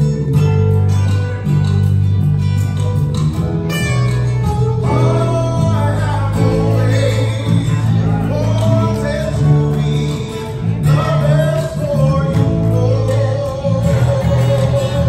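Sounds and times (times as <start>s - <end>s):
guitar accompaniment: 0.0s - 15.0s.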